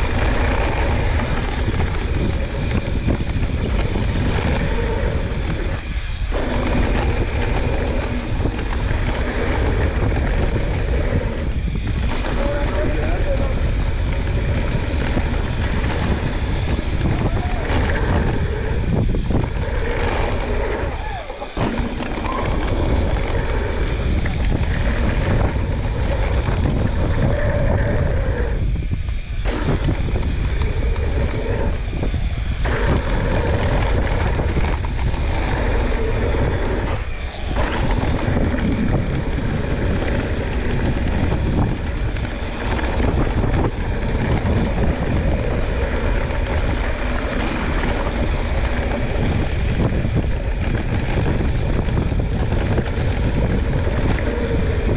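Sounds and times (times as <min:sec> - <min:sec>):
bike rattle: 0:00.0 - 0:54.9
tyre rumble: 0:00.0 - 0:54.9
wind rush on microphone: 0:00.0 - 0:54.9.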